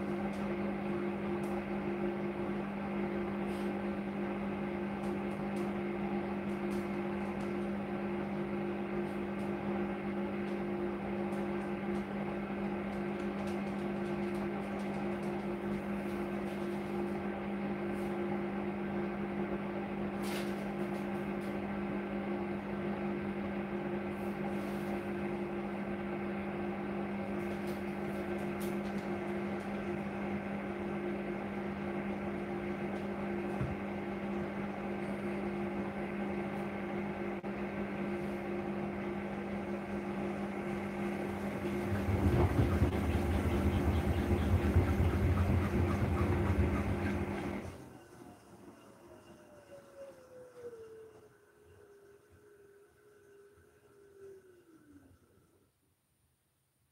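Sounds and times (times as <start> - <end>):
washing machine electrical hum: 0.0 - 56.9.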